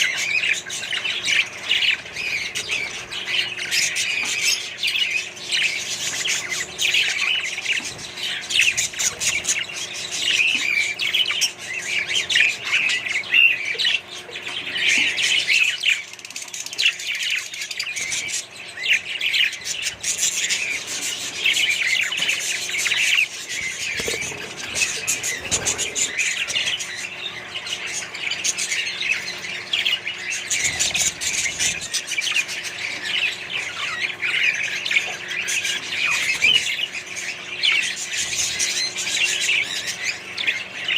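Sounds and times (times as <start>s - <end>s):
parrots chirping and squawking: 0.0s - 40.9s.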